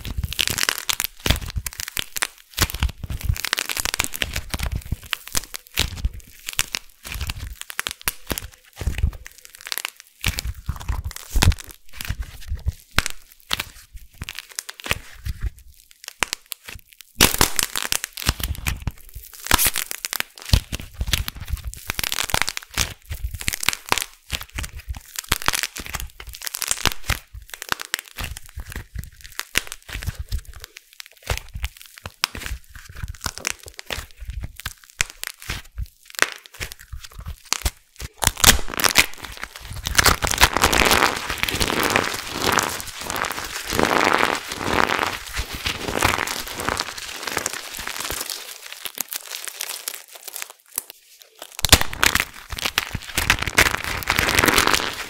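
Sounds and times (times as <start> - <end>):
hands crunching dried clay: 0.0 - 55.0.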